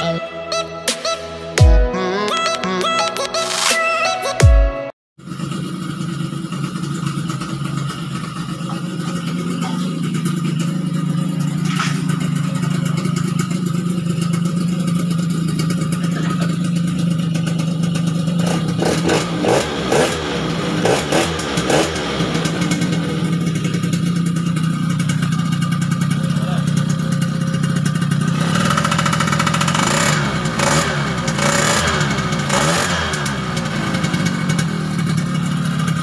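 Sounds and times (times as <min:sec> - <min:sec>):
engine throttle blips: 0:05.2 - 0:36.0
two-stroke scooter engine idling: 0:05.2 - 0:36.0.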